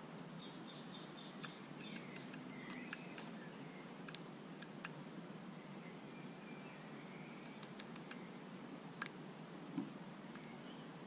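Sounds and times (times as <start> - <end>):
small birds singing: 0.3 - 11.0.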